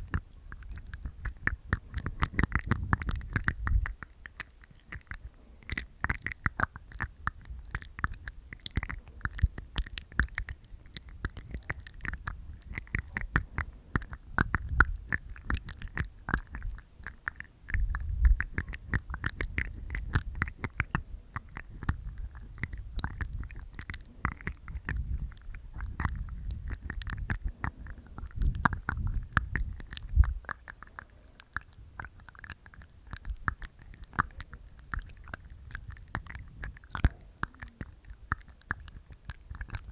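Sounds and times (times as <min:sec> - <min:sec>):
wet tongue clicks: 0:00.0 - 0:39.9.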